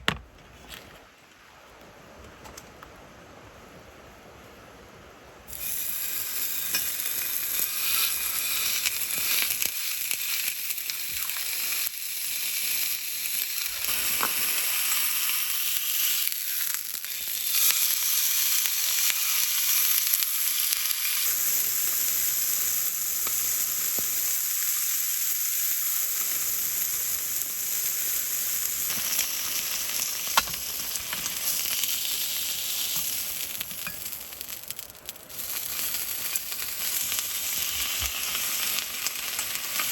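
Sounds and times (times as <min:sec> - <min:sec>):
food sizzling in a pan: 0:05.5 - 0:39.9.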